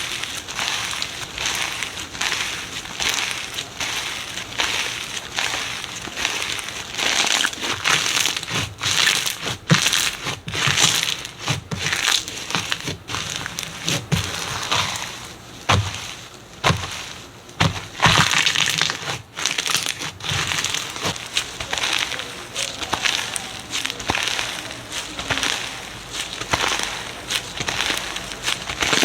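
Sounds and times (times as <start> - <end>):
slime squelching and crackling: 0.0 - 29.0.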